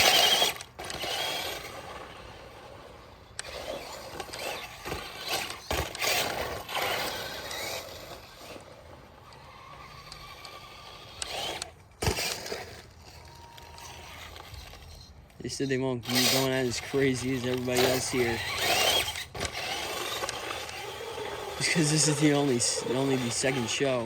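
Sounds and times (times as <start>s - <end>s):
toy truck motor and tyres: 0.0s - 24.0s.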